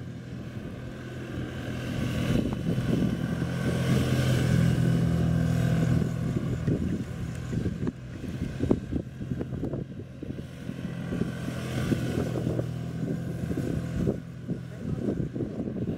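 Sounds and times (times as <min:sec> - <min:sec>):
motorcycle engine at low revs: 0:00.0 - 0:15.9.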